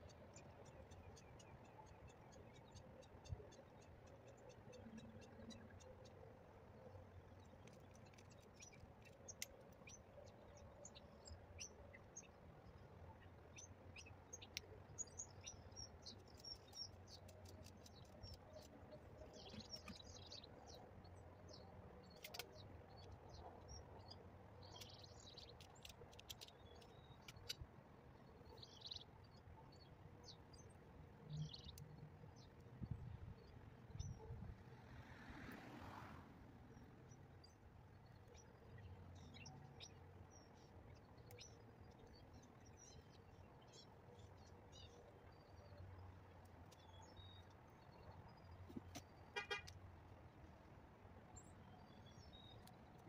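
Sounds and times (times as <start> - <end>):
faint birds chirping: 0.0 - 35.8, 36.4 - 53.0.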